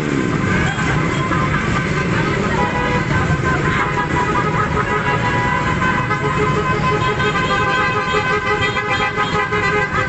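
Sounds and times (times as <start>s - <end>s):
horns honking: 0.0s - 10.0s
motorcycle engines running: 0.0s - 10.0s.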